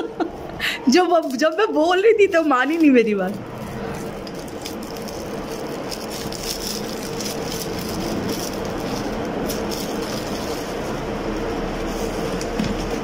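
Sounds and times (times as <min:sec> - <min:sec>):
machine hum and whir: 0:00.0 - 0:13.0
foil gift wrap crinkling and tearing: 0:00.9 - 0:13.0.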